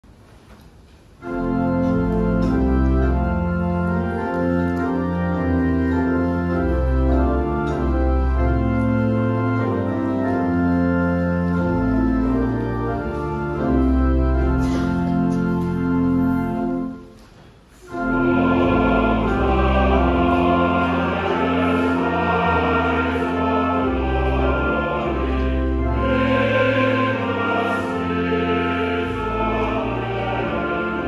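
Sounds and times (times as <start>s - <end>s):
church organ playing a hymn: 1.2s - 31.0s.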